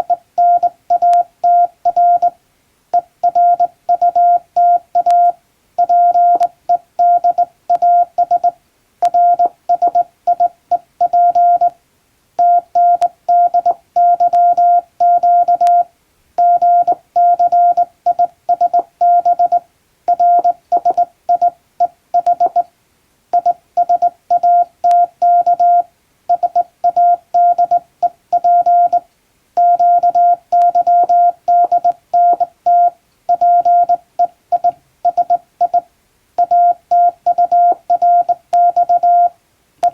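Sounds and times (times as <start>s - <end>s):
morse code beeps: 0.0s - 2.4s, 3.0s - 11.7s, 12.4s - 22.7s, 23.4s - 39.9s.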